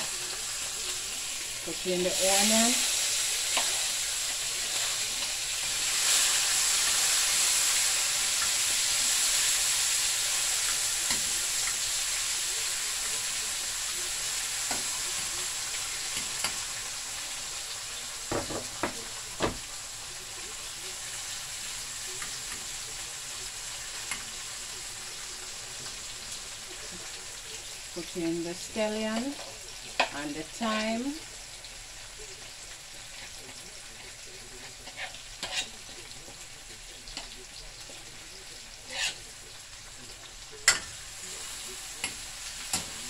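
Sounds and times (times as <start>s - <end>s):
vegetables sizzling in hot oil: 0.0s - 43.0s.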